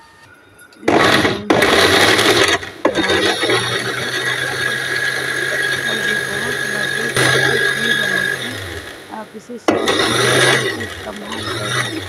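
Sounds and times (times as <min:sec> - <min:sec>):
mixer grinder grinding: 0:00.0 - 0:12.0.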